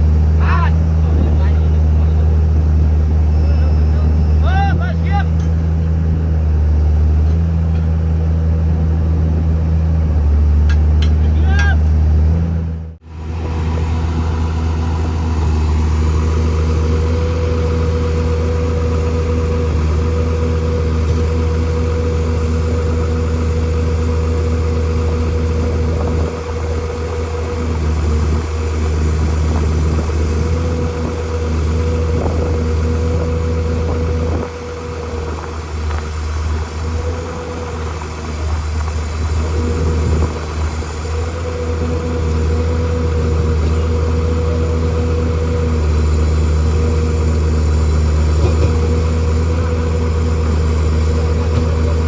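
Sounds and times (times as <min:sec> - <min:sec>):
diesel engine running: 0:00.0 - 0:52.0
steady whine: 0:00.0 - 0:52.0.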